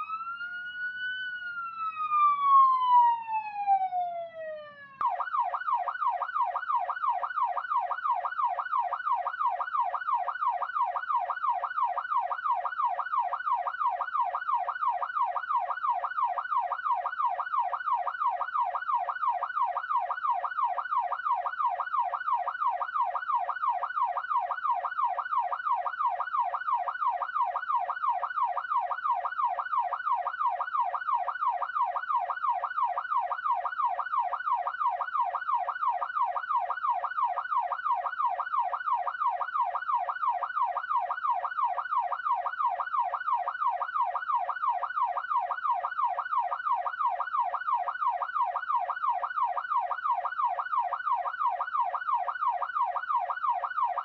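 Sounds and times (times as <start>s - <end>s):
electronic police siren wailing: 0.0s - 54.0s.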